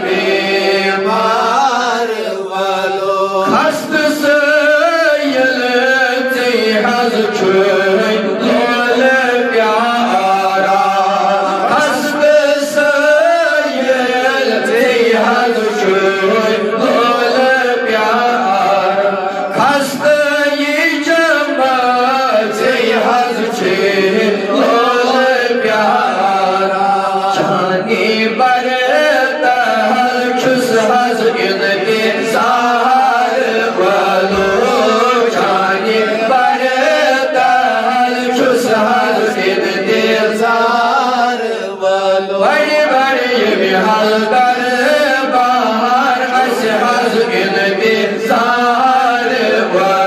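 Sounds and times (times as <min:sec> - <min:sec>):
man chanting devotional song: 0:00.0 - 0:50.0.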